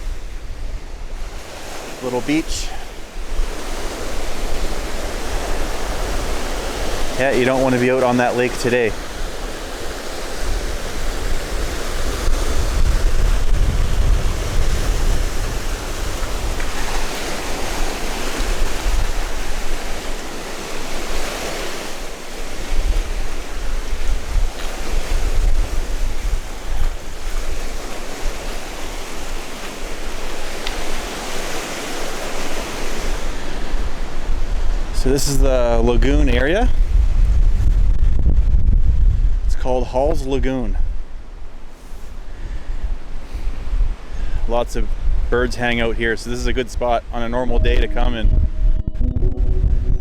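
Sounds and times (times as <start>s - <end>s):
wind buffeting microphone: 0.0s - 7.5s, 8.2s - 39.6s, 40.7s - 50.0s
waves breaking on beach: 0.0s - 37.8s, 40.2s - 48.2s.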